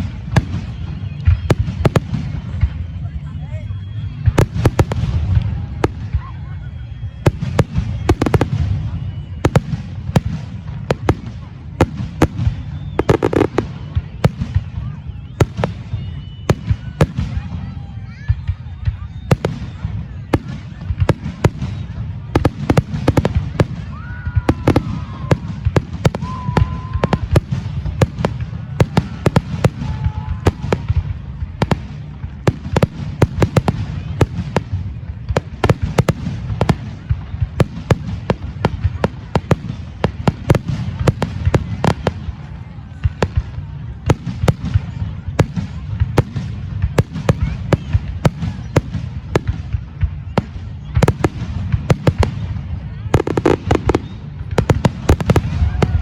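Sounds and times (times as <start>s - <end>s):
firework whistling: 0.0s - 43.6s, 45.4s - 56.0s
fireworks bangs: 0.0s - 56.0s.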